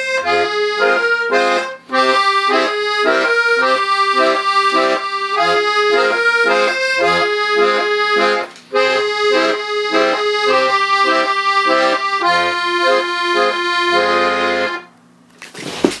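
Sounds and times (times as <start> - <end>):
accordion playing folk tune: 0.0 - 14.9.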